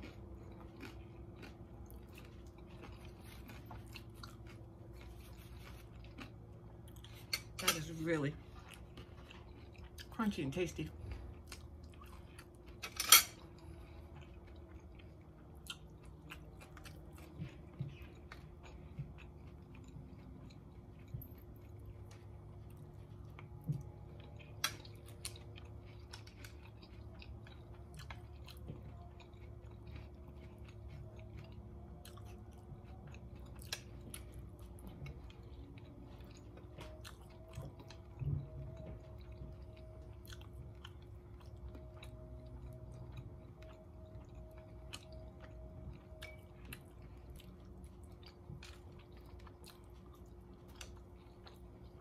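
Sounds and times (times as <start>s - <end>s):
chewing crunchy food: 0.0s - 52.0s
faint steady hum: 0.0s - 52.0s.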